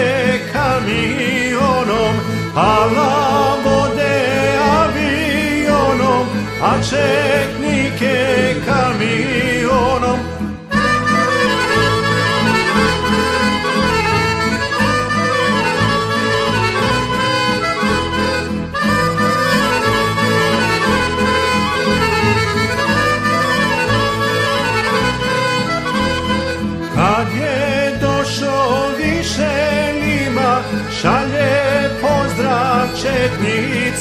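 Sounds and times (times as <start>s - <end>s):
instrumental folk melody: 0.0s - 34.0s
repeating bass line: 0.0s - 34.0s.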